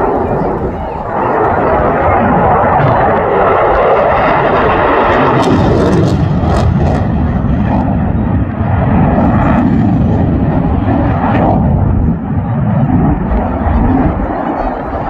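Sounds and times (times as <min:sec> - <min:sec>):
jet engine roar overhead: 0:00.0 - 0:15.0.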